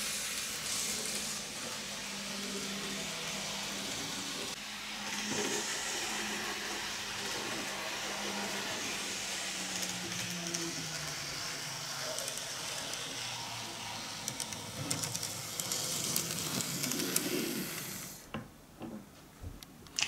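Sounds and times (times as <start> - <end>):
small electric motor humming: 0.9 - 18.2.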